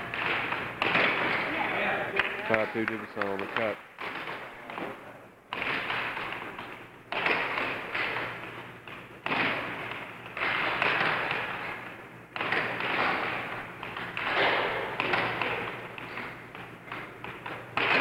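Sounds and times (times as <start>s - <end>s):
air hockey puck cracks and rattle: 0.0s - 18.0s
steady low hum: 0.0s - 18.0s.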